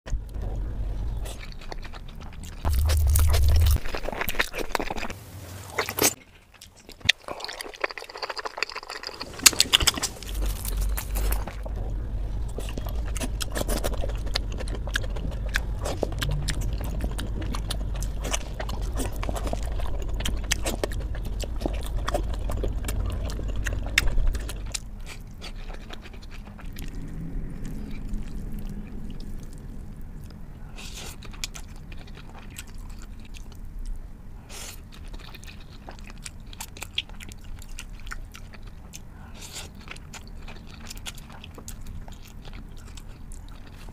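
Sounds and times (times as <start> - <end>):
wet chewing and squishing: 0.1 - 43.9.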